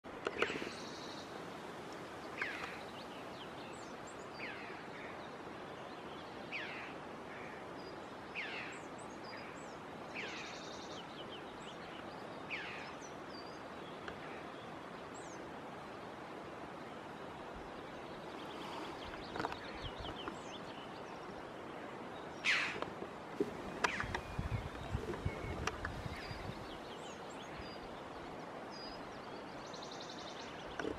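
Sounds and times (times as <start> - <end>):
steady background hiss: 0.1 - 30.9.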